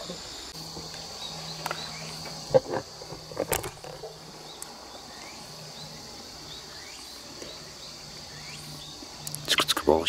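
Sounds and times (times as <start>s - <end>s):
cicadas droning and chirping: 0.0s - 10.0s.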